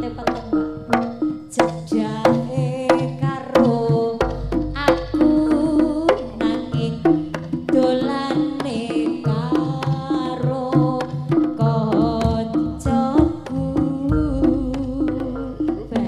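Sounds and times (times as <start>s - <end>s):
drum strokes: 0.0s - 16.0s
hanging gongs: 0.0s - 16.0s
woman singing ornamented melody: 0.0s - 16.0s.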